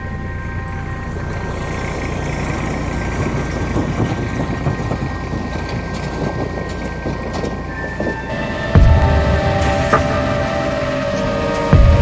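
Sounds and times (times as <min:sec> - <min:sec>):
tractor engine rumbling: 0:00.0 - 0:12.0
trailer clattering: 0:00.0 - 0:12.0.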